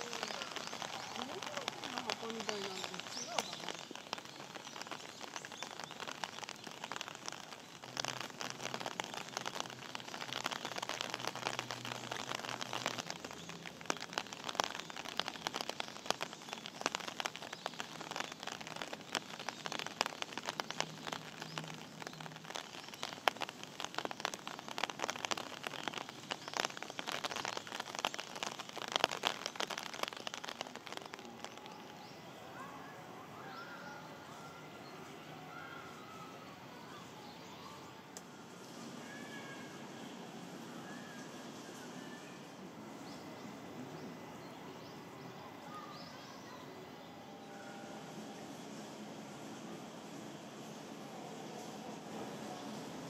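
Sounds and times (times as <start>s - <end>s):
rain pattering on hard surfaces: 0.0s - 53.0s.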